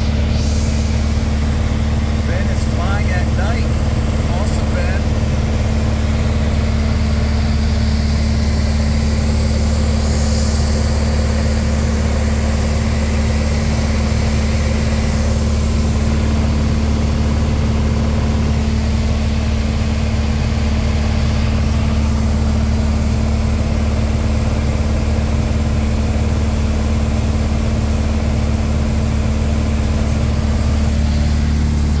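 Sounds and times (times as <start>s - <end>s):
light aircraft engine droning: 0.0s - 32.0s.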